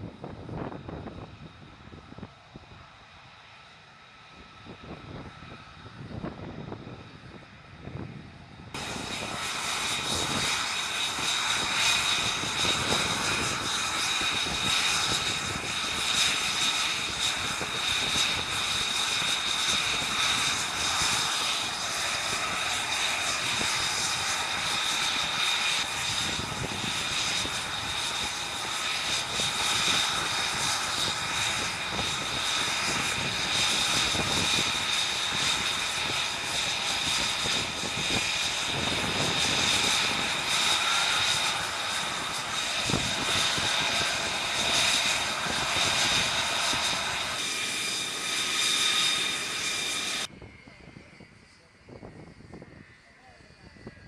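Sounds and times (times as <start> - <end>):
aircraft engine whining: 0.0 - 54.0.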